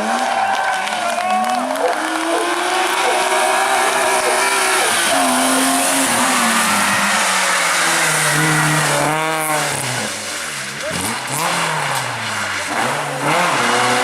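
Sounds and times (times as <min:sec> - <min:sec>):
rally car engine changing gear: 0:00.0 - 0:14.0
tyre and road noise: 0:00.0 - 0:14.0.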